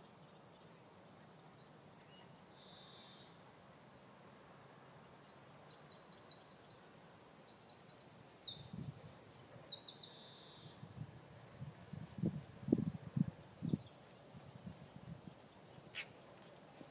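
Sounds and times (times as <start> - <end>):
small birds chirping and trilling: 0.0 - 10.8, 12.9 - 16.9.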